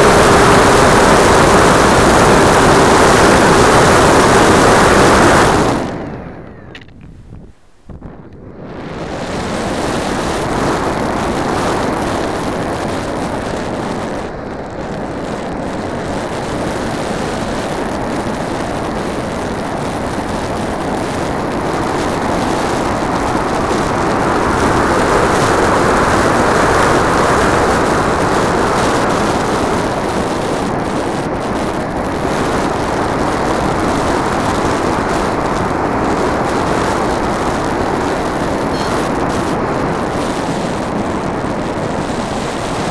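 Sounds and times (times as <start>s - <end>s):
model plane propeller and airflow: 0.0s - 42.9s.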